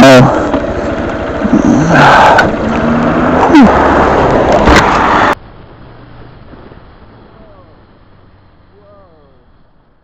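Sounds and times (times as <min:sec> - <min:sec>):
motorcycle engine: 0:00.0 - 0:10.0
road and wind noise: 0:00.0 - 0:10.0.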